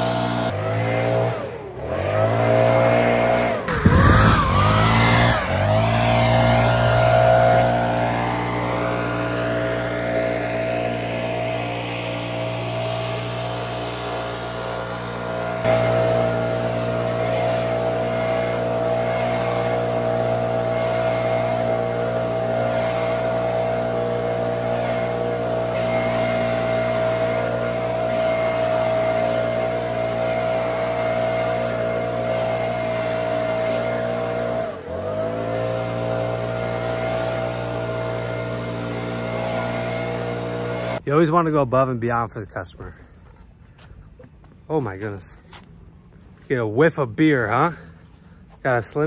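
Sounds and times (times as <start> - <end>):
leaf blower running: 0.0 - 41.3, 46.3 - 49.0.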